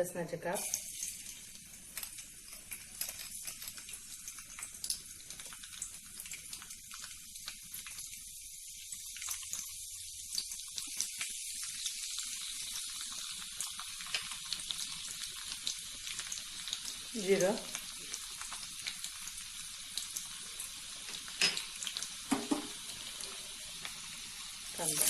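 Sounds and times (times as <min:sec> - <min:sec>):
garlic sizzling in hot oil: 0:00.0 - 0:25.0.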